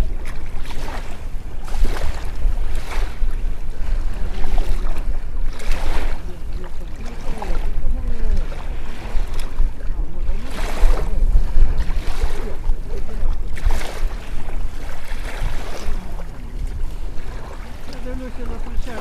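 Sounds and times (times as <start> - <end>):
rushing water-like noise: 0.0 - 19.0
wind buffeting microphone: 0.0 - 19.0.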